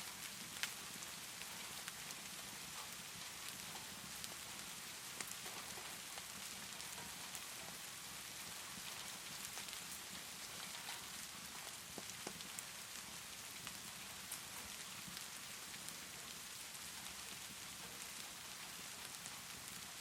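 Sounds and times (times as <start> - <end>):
fireplace fire crackling: 0.0 - 20.0
steady rainfall hissing: 0.0 - 20.0.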